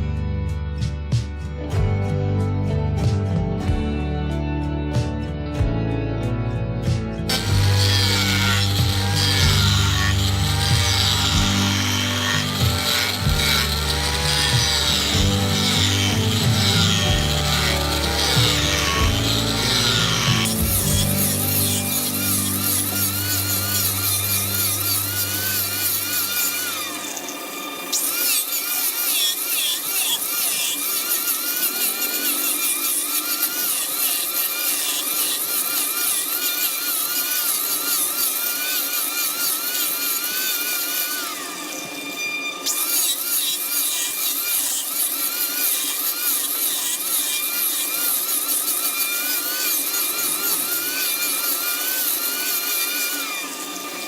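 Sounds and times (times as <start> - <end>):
cutting tool shaving wood: 7.3 - 54.0
wood lathe running: 7.3 - 54.0.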